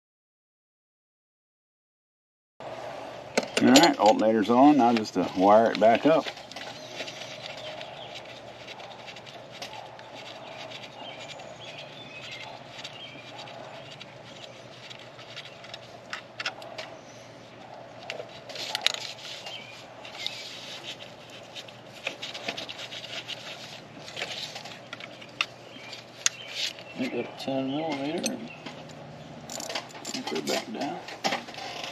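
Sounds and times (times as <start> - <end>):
birds chirping faintly: 3.0 - 31.9.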